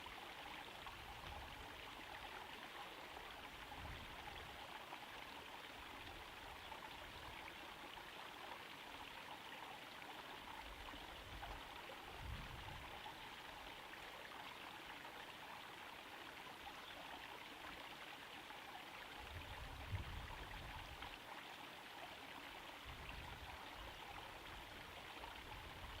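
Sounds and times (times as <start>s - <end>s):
pond waterfall trickling: 0.0s - 26.0s.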